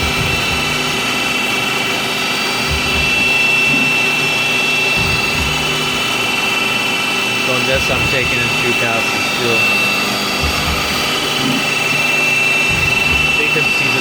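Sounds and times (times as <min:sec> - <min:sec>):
lathe machining whine: 0:00.0 - 0:14.0.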